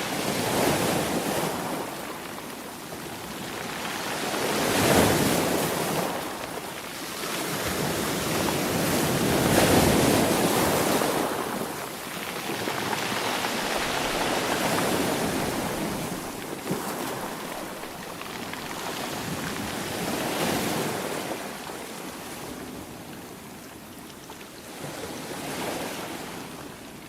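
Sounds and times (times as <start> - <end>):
sea waves breaking on shore: 0.0 - 27.0.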